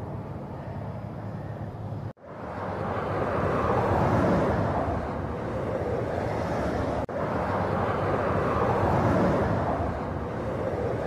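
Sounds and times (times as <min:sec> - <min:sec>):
motorway traffic passing: 0:00.0 - 0:11.0.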